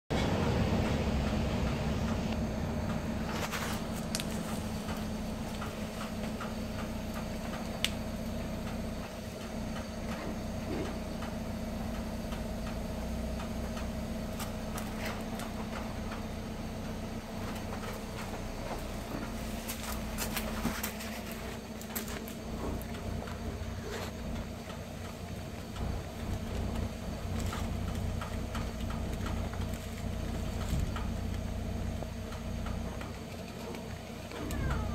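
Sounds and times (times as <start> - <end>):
low mechanical hum: 0.1 - 34.9
faint clicks and rustles: 1.7 - 34.9.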